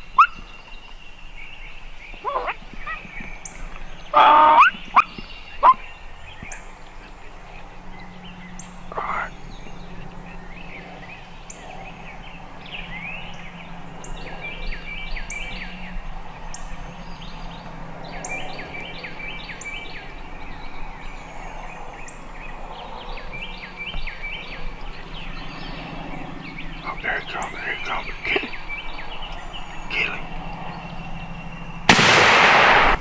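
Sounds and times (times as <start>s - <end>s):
outdoor background: 0.0s - 33.0s.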